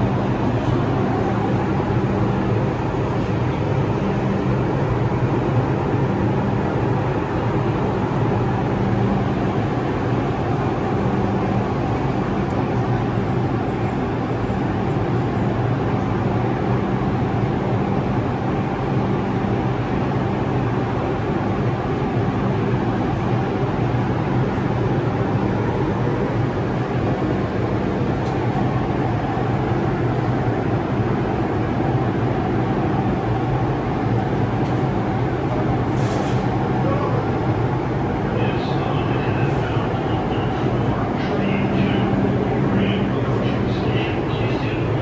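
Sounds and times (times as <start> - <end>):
train equipment humming: 0.0 - 45.0.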